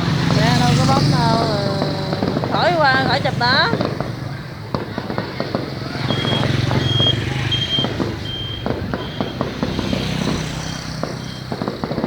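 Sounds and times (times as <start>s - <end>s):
fireworks crackling: 0.0s - 12.0s
vehicle engine humming: 0.0s - 12.0s.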